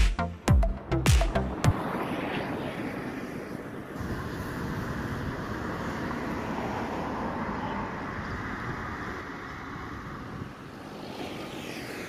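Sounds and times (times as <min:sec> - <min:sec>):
turboprop airliner rumble: 0:00.7 - 0:12.0
wind on microphone: 0:00.8 - 0:12.0.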